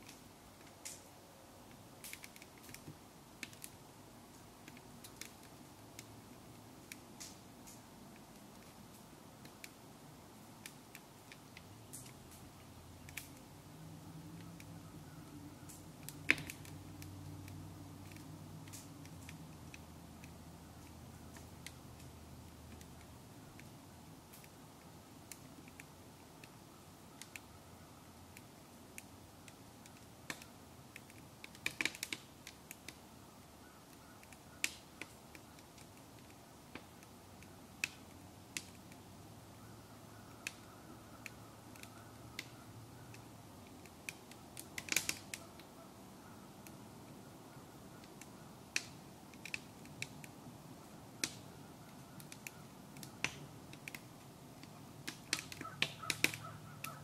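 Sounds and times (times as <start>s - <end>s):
wood fire crackling and popping: 0.0s - 27.6s, 28.2s - 45.8s, 48.0s - 57.0s.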